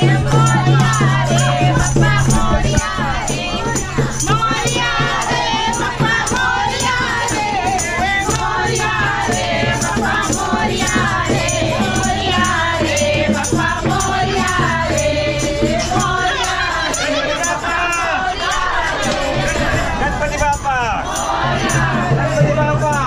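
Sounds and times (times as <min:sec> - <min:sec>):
group of voices singing: 0:00.0 - 0:23.0
rattling percussion beat: 0:00.0 - 0:23.0.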